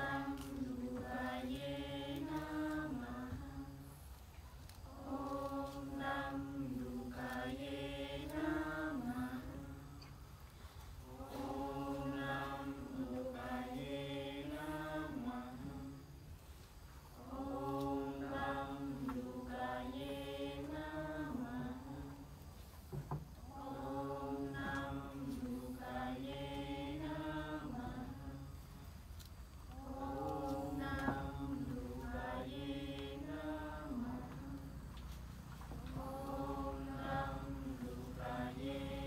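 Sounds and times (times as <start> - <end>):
voices chanting together: 0.0 - 39.0.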